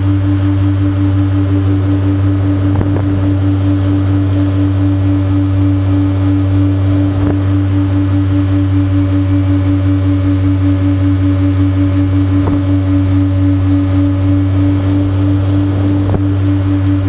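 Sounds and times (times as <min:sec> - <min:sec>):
electric motors and propellers droning: 0:00.0 - 0:17.0.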